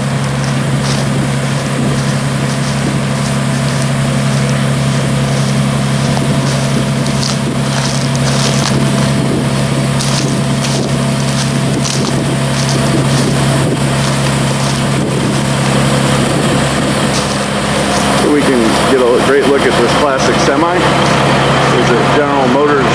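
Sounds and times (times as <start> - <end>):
dry corn stalks crunching: 0.0 - 22.5
harvest machinery engine drone: 0.0 - 22.9.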